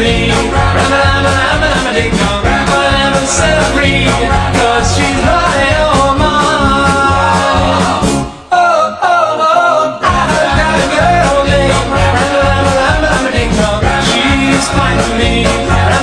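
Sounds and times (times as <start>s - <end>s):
rock and roll band playing: 0.0s - 8.5s, 10.0s - 16.0s
person singing: 0.0s - 16.0s.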